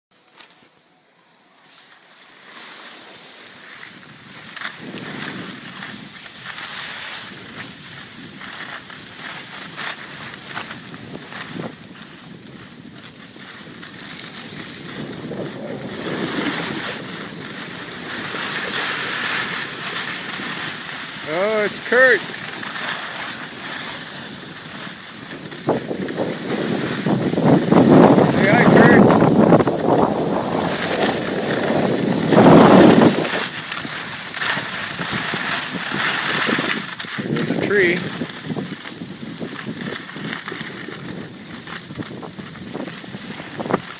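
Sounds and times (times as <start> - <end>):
skis sliding on packed snow: 0.2 - 43.9
wind on microphone: 3.6 - 43.9.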